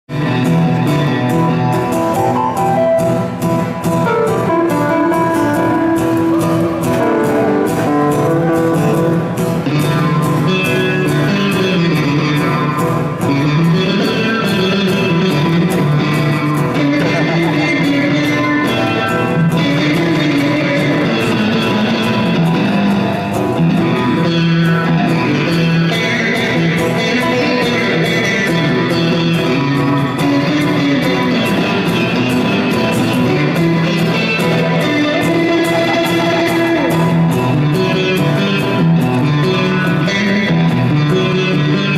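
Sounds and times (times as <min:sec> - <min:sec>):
electric guitar: 0:00.0 - 0:41.9
strummed acoustic guitar: 0:00.1 - 0:41.9.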